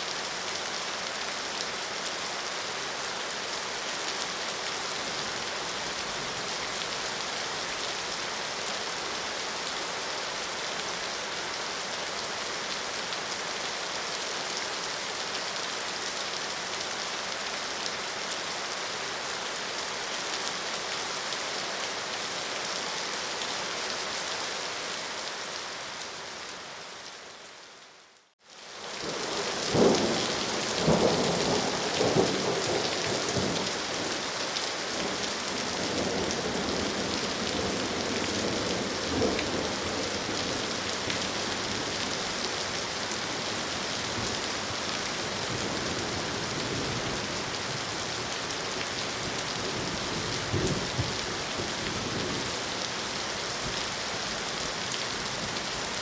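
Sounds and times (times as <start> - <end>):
rain pouring: 0.0 - 27.4, 28.2 - 56.0.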